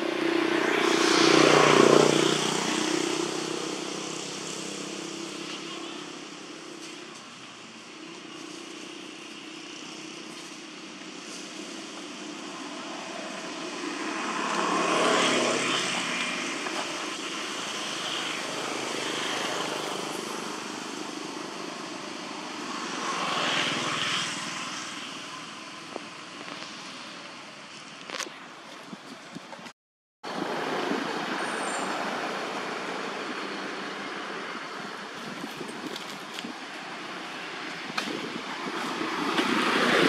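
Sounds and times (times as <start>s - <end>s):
passing motor vehicles: 0.0s - 29.5s, 30.2s - 40.0s.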